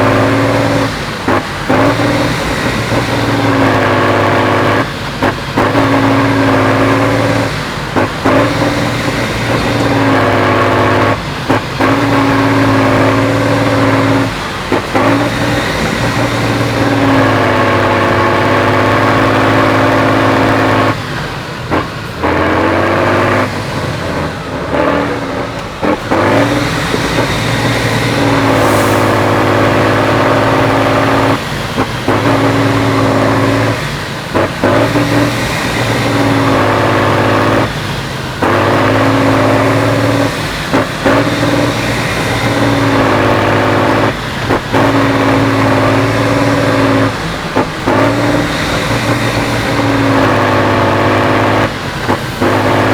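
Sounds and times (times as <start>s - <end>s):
diesel truck engine under load: 0.0s - 52.9s.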